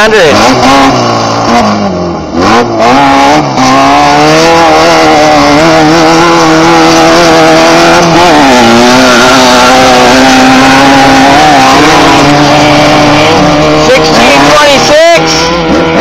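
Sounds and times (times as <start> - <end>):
buggy engine running hard: 0.0 - 16.0.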